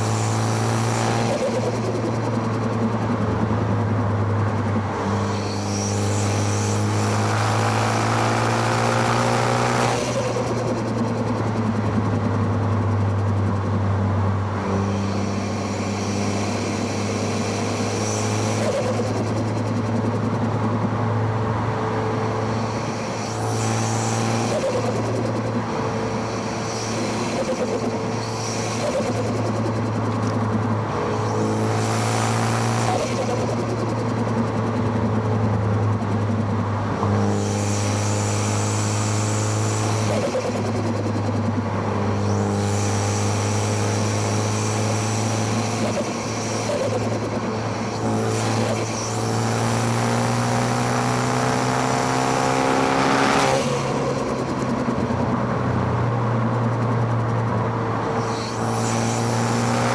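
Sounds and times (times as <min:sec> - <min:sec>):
car engine revving: 0:00.0 - 0:13.7, 0:14.4 - 0:59.9.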